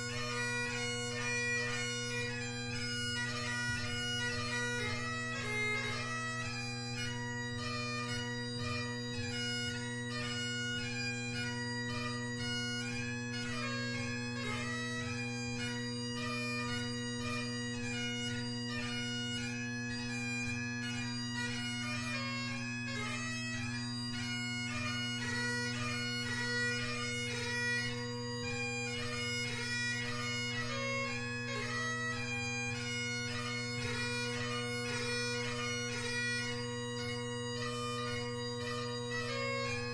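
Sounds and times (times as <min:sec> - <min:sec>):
bagpipe chanter melody: 0:00.0 - 0:39.9
bagpipe drones humming: 0:00.0 - 0:39.9.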